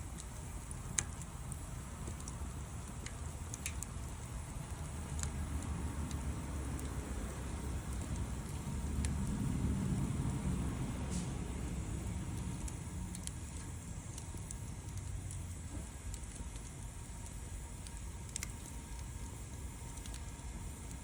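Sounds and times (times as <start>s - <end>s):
campfire crackling and popping: 0.0s - 21.0s
low steady rumble: 0.0s - 21.0s.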